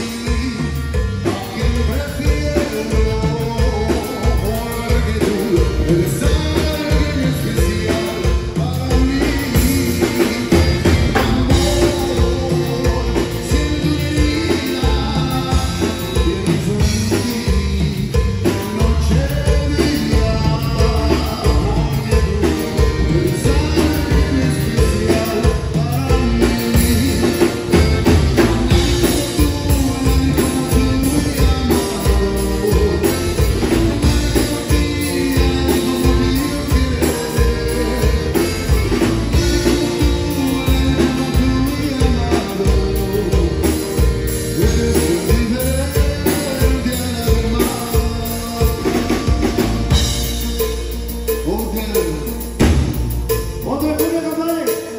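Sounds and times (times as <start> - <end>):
accordion: 0.0 - 54.9
bass: 0.0 - 54.9
drum kit beat: 0.0 - 54.9
guitar: 0.0 - 54.9.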